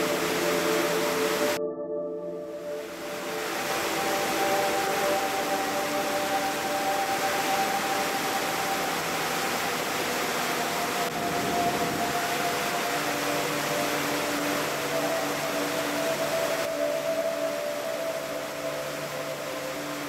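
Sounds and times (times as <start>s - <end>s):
large waterfall rushing: 0.0s - 1.6s, 2.6s - 20.0s
slow ambient music: 0.0s - 20.0s.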